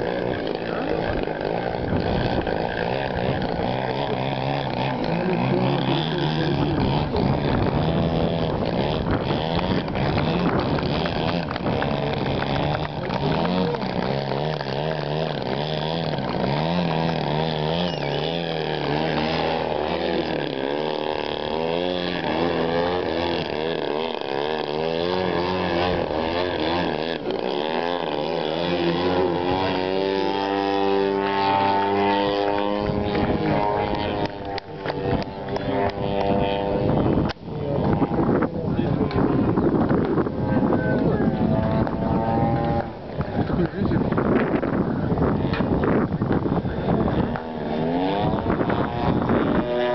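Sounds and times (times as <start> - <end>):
model airplane engine revving: 0.0 - 49.9.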